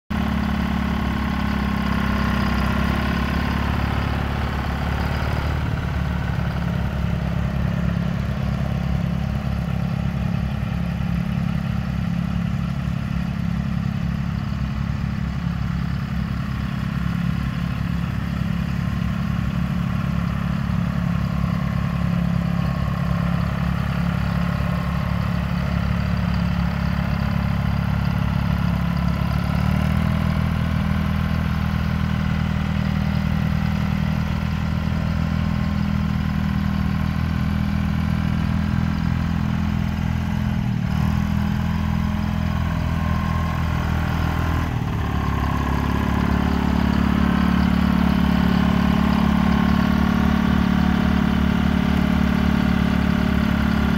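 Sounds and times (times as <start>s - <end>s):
tractor diesel engine running: 0.1s - 53.9s.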